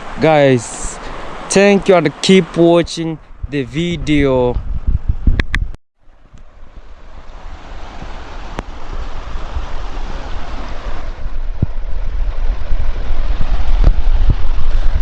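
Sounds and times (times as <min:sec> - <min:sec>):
wind buffeting microphone: 0:02.8 - 0:15.0.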